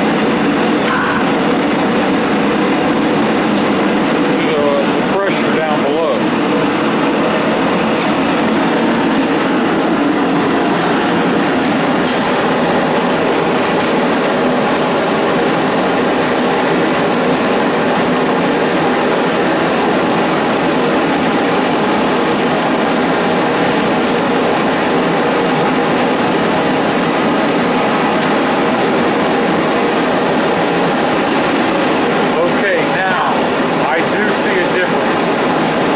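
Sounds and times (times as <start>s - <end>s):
gas burners roaring: 0.0s - 35.9s.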